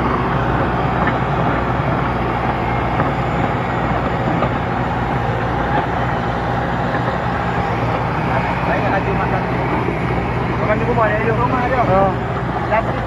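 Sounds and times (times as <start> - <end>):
heavy machine engine droning: 0.0 - 13.0.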